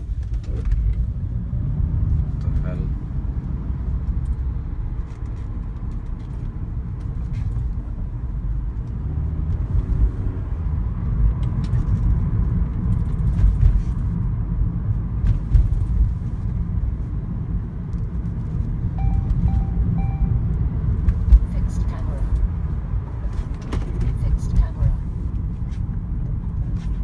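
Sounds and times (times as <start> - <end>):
car engine uneven low rumble: 0.0 - 27.0.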